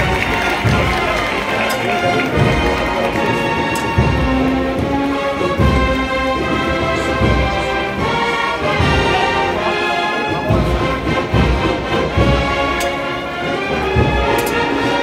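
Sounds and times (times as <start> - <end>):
brass melody: 0.0 - 15.0
deep drum beats: 0.0 - 15.0.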